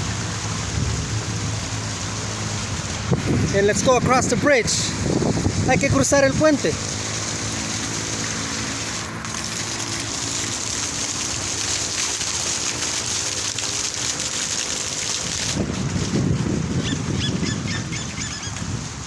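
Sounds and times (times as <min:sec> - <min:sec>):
wind buffeting microphone: 0:00.0 - 0:12.2, 0:13.5 - 0:19.0
fountain water splashing: 0:00.0 - 0:19.0.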